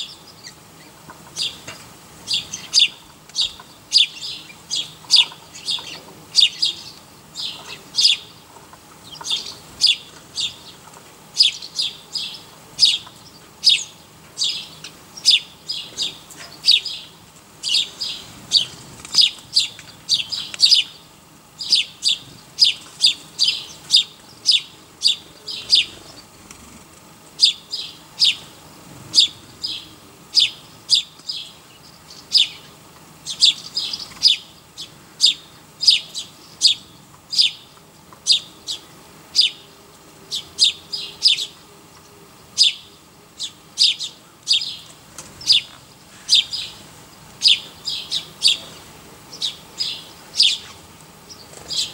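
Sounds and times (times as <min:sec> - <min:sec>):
bird chirping: 0:00.0 - 0:10.8, 0:11.4 - 0:26.4, 0:27.4 - 0:39.7, 0:40.3 - 0:51.9.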